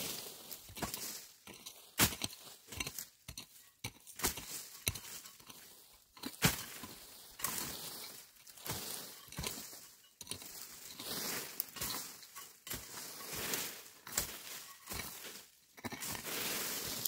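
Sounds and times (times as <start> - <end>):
dry vegetation rustling: 0.0 - 17.0
hoe chopping stony soil: 0.0 - 17.0.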